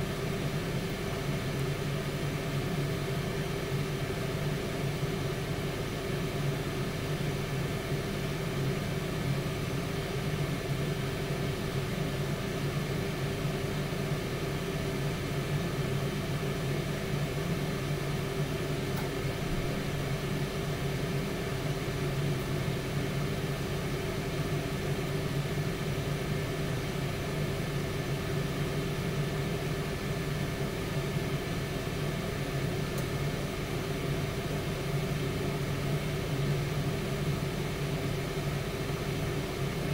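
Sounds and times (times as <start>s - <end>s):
air fryer fan humming: 0.0s - 39.9s.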